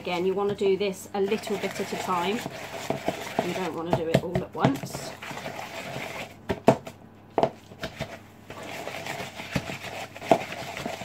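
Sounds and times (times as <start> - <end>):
spoon scraping and squelching batter: 0.0 - 6.4, 7.6 - 11.0.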